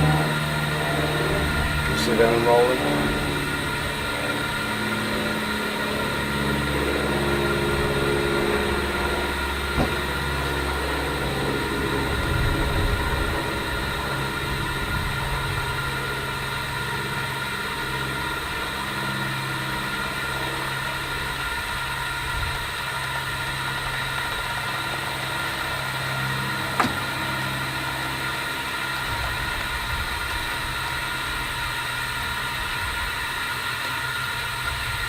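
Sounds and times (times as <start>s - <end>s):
air supply machine hum: 0.0s - 35.0s.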